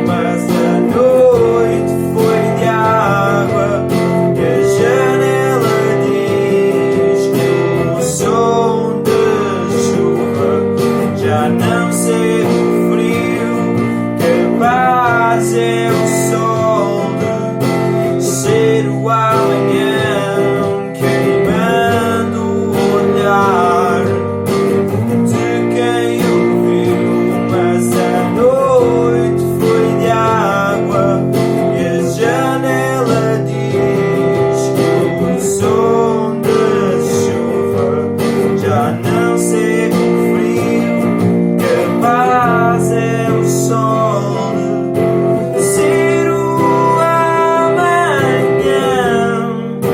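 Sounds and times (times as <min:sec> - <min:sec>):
strummed acoustic guitar loops: 0:00.0 - 0:49.9
wavering guitar melody: 0:00.0 - 0:49.9.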